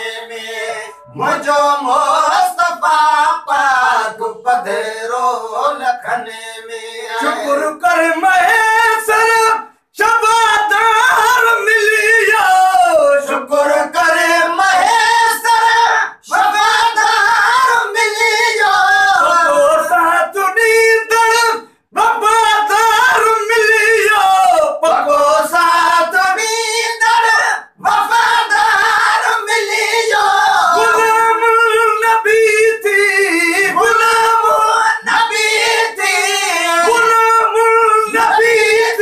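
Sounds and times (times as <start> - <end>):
men singing unaccompanied: 0.0 - 39.0.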